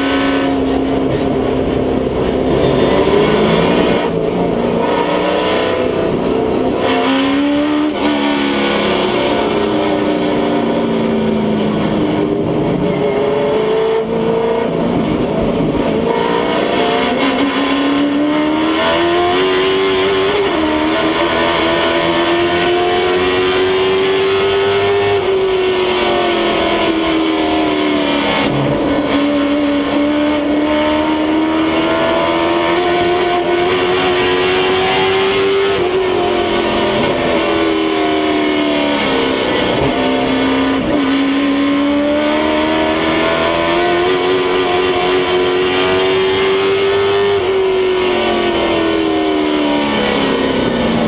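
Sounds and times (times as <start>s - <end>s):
race car engine: 0.0s - 51.0s.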